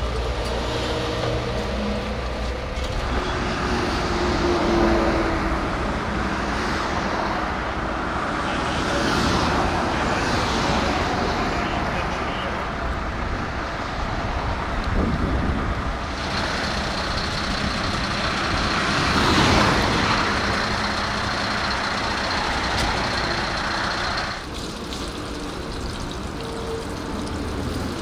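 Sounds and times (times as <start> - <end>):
diesel truck engines passing: 0.0 - 28.0.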